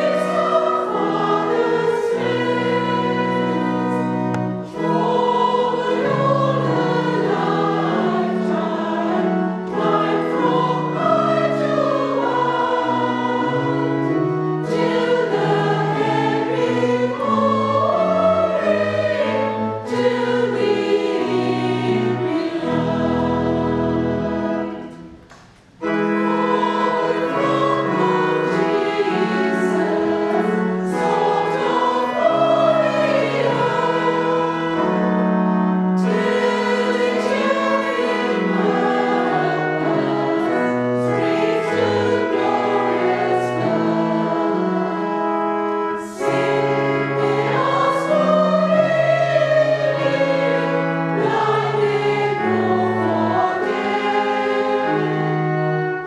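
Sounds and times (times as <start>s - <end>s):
women's choir singing: 0.0s - 25.1s, 25.8s - 45.3s, 45.9s - 55.7s.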